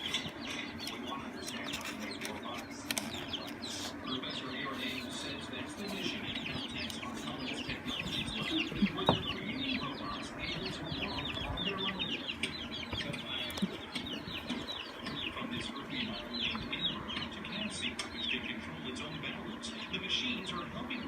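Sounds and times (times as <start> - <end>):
chickens clucking: 0.0 - 21.0
chickens peeping: 0.0 - 21.0.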